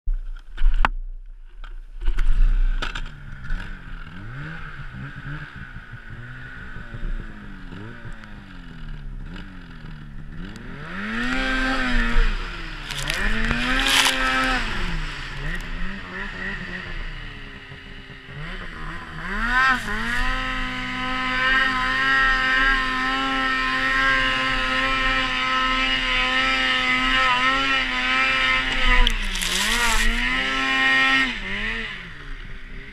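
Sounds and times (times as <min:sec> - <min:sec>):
snowmobile engine revving: 0:02.4 - 0:32.9.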